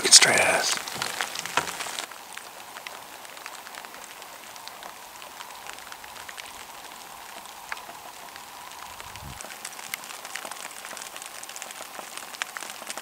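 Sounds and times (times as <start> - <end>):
light rain hiss: 0.0 - 13.0
raindrops ticking: 0.0 - 13.0.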